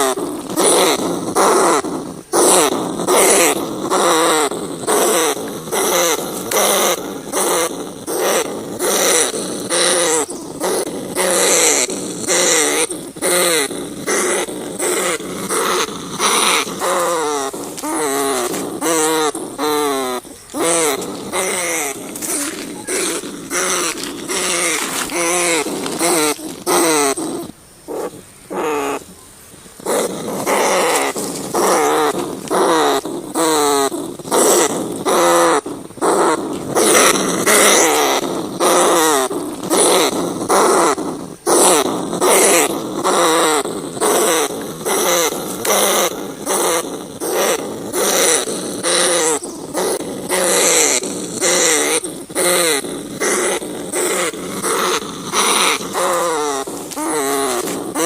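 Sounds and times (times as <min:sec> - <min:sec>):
rats squealing and grunting: 0:00.0 - 0:29.2, 0:29.8 - 0:58.0.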